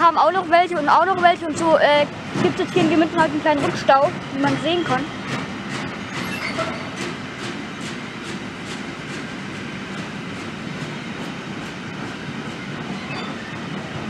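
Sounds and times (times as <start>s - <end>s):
train rumble: 0.0s - 14.0s
train wheels clickety-clack: 0.0s - 14.0s.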